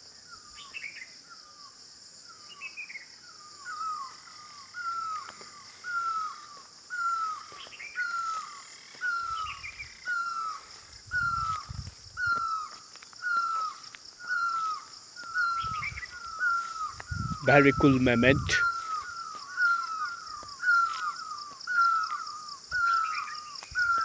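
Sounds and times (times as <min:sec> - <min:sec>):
high buzz of insects: 0:00.0 - 0:24.0
other birds calling: 0:03.6 - 0:24.0.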